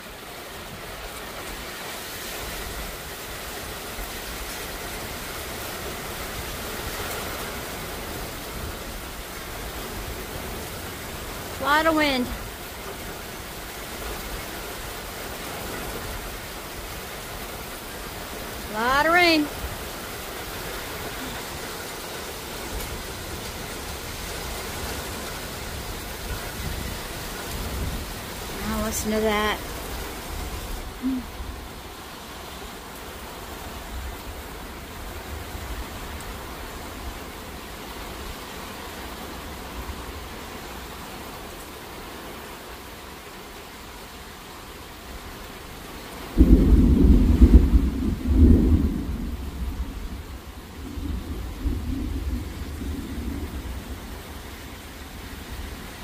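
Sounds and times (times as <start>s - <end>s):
heavy rain pouring: 0.0s - 56.0s
wind: 0.0s - 56.0s.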